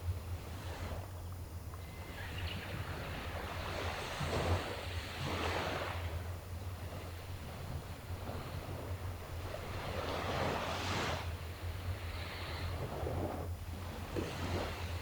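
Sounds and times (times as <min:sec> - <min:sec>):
sea waves washing ashore: 0:00.0 - 0:01.2, 0:02.0 - 0:15.0
steady low rumble: 0:00.0 - 0:05.3, 0:06.0 - 0:15.0.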